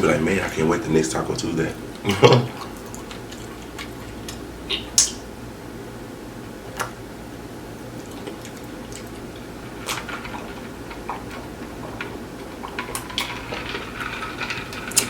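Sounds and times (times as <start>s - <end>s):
crunchy tacos crackling: 0.0s - 5.4s, 6.5s - 15.0s
low room hum: 0.0s - 15.0s.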